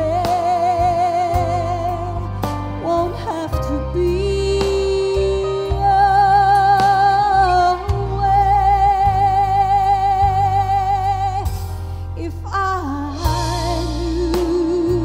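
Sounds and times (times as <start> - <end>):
instrumental accompaniment with bass: 0.0 - 15.0
woman singing into a microphone: 0.0 - 15.0.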